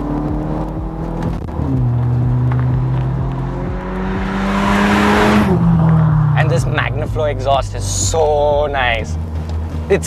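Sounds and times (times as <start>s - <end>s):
car engine revving at full throttle: 0.0s - 10.0s
gear upshift: 0.0s - 10.0s.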